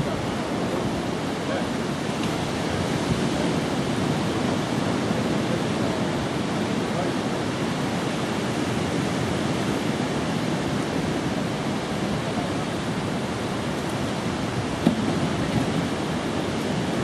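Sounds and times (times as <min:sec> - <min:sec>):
sea surf breaking: 0:00.0 - 0:17.0.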